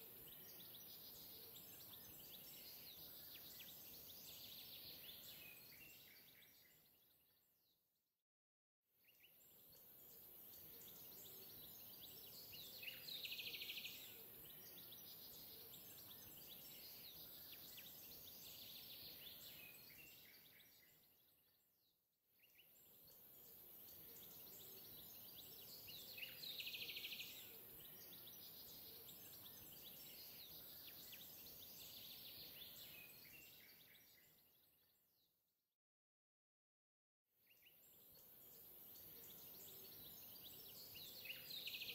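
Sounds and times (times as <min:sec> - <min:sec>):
bird chirps: 0:00.0 - 0:07.2, 0:09.1 - 0:21.6, 0:22.4 - 0:35.0, 0:37.5 - 0:41.9.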